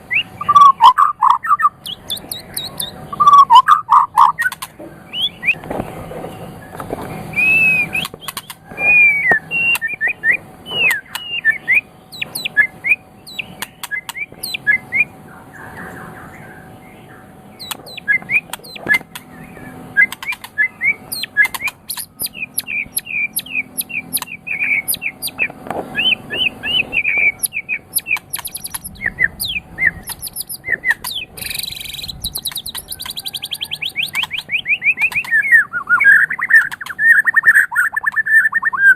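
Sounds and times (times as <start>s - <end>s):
bird singing whistles and chirps: 0.0s - 5.7s, 6.6s - 38.9s.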